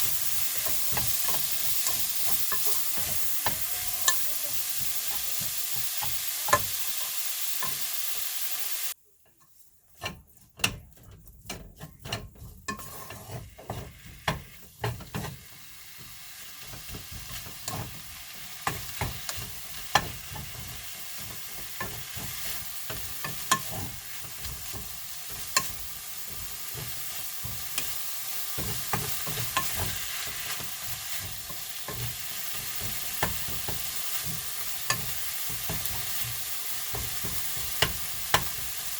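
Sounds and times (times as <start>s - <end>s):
utensil clicking against pan: 0.0s - 8.3s, 10.0s - 15.4s, 16.7s - 38.9s
food sizzling in a pan: 0.0s - 9.0s, 11.5s - 38.9s.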